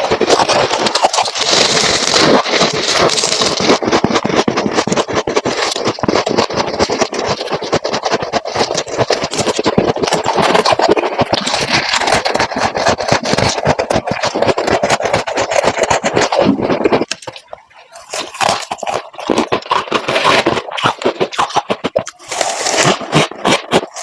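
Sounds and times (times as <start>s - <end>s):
ice scraping in freezer: 0.0s - 24.0s.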